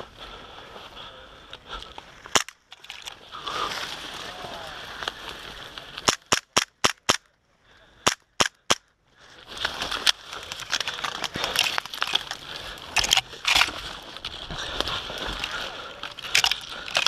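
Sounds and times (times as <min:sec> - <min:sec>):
branches and leaves crackling: 0:00.0 - 0:06.3, 0:09.0 - 0:17.0.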